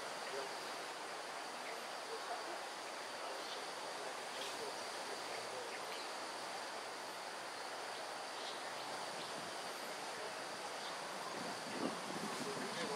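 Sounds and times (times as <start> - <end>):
high insect drone: 0.0 - 12.9.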